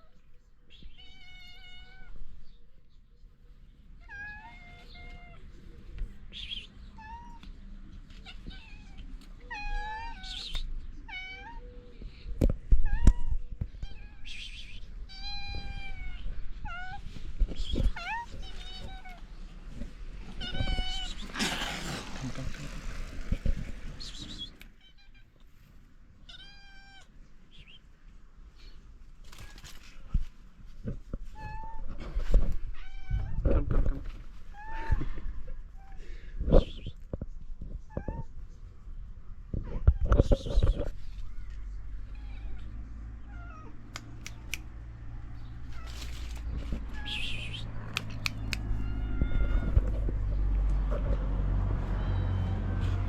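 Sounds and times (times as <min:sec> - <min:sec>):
cats meowing: 0:00.0 - 0:02.4, 0:04.0 - 0:22.8, 0:24.0 - 0:27.6, 0:31.2 - 0:37.1, 0:37.8 - 0:38.6, 0:39.6 - 0:44.6, 0:45.6 - 0:53.0.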